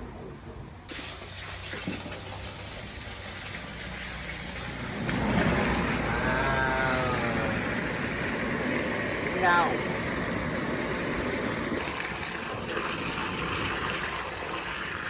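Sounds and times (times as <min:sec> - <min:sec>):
water rushing into pool: 0:00.9 - 0:15.0.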